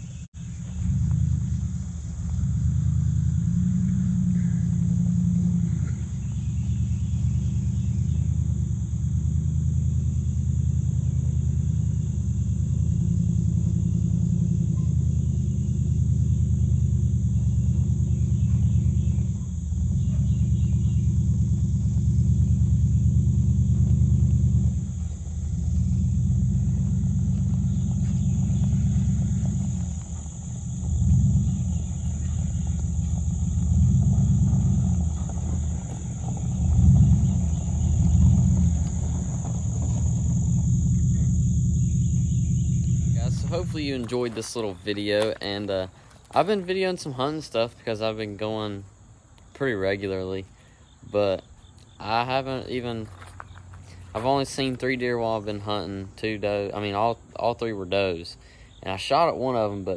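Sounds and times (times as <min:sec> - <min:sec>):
truck engine deep rumble: 0:00.0 - 0:59.9.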